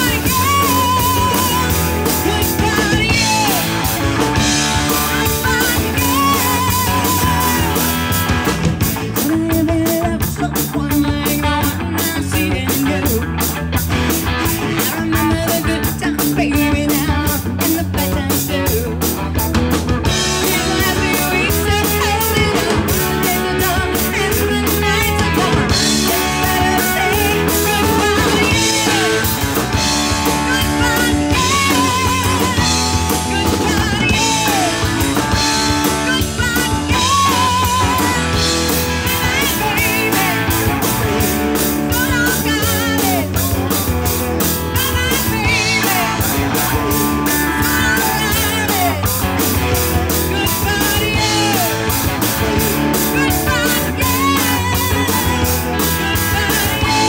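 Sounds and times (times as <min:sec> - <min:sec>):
person singing: 0:00.0 - 0:13.6, 0:14.3 - 0:57.0
drums keeping steady beat: 0:00.0 - 0:57.0
live rock band playing: 0:00.0 - 0:57.0.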